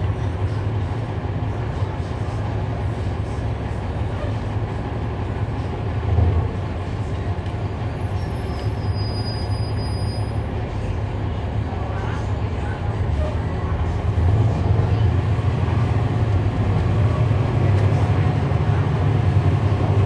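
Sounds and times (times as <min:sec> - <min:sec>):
bus diesel engine rumble: 0:00.0 - 0:20.0.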